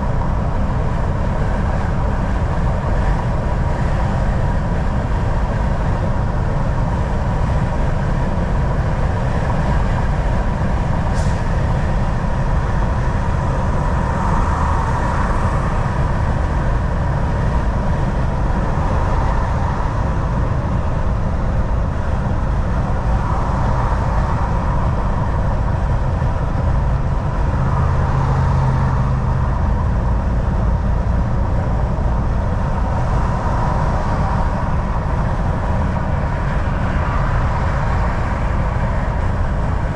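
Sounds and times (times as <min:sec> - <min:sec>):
diesel engine rumble: 0:00.0 - 0:39.9
tyre and road noise: 0:00.0 - 0:39.9.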